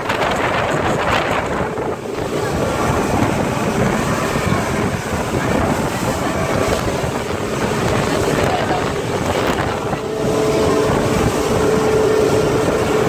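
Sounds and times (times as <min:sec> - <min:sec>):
rushing water from hull: 0:00.0 - 0:13.0
speedboat engine drone: 0:00.0 - 0:13.0
wind buffeting microphone: 0:00.0 - 0:13.0.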